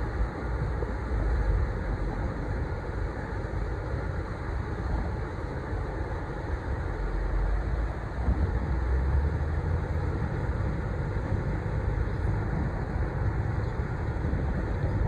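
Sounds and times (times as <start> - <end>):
ship engine rumbling: 0.1 - 15.0.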